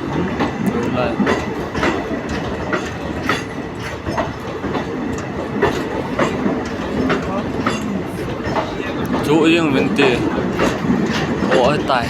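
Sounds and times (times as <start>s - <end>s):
train rumble: 0.0s - 12.0s
train wheels clacking over rail joints: 0.0s - 12.0s.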